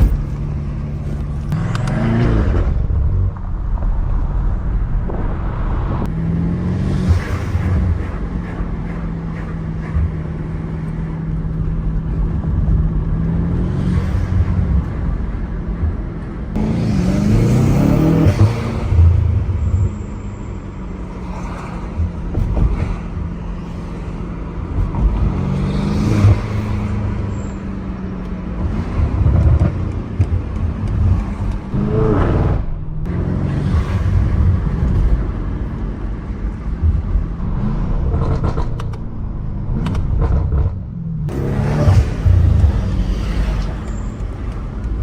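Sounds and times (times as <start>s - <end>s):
car engine drone: 0.0s - 45.0s.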